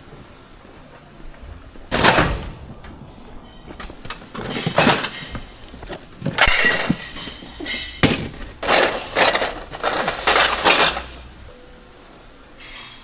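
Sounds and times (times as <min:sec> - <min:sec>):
hard items clinking and clattering: 0:00.0 - 0:11.5.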